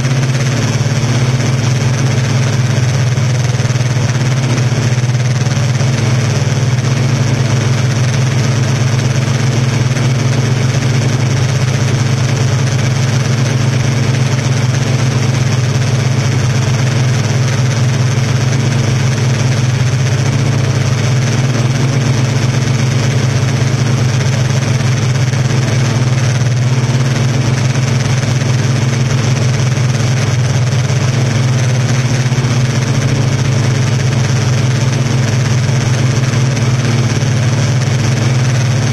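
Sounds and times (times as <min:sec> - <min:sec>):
drone propellers humming: 0:00.0 - 0:38.9.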